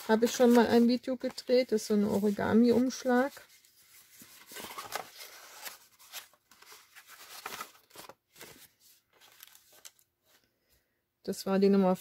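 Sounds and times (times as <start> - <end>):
paper rustling and crinkling: 0.0 - 10.4.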